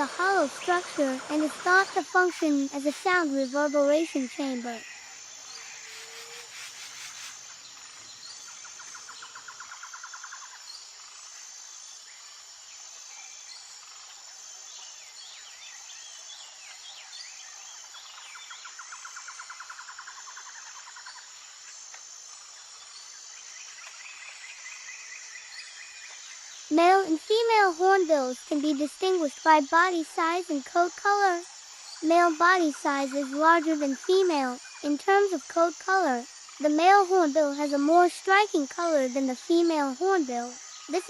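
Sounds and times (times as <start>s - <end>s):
high insect buzz: 0.0s - 41.0s.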